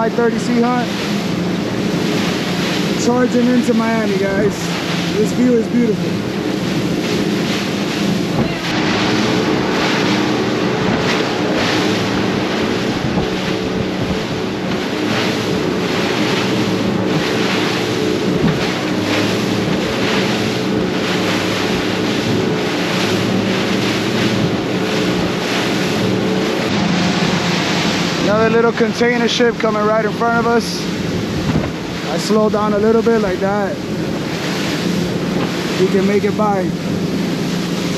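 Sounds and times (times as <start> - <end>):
outboard engines running: 0.0 - 37.9
water rushing along hull: 0.0 - 37.9
wind buffeting microphone: 0.0 - 37.9.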